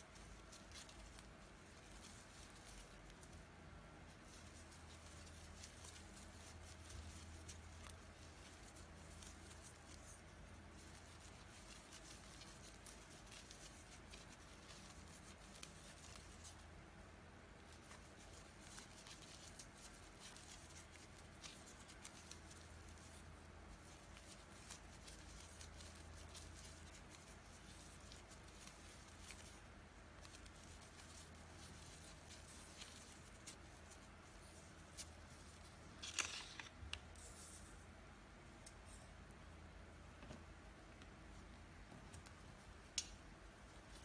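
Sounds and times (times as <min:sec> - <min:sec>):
crochet hook crinkling yarn: 0:00.0 - 0:44.0
low steady hum: 0:00.0 - 0:44.0.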